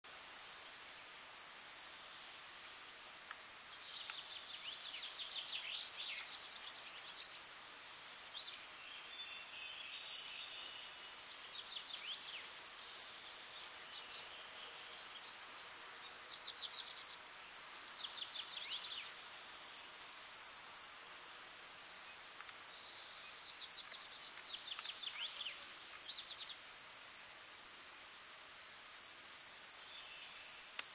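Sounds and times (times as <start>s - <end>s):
songbird singing: 2.0s - 27.6s, 29.0s - 30.9s.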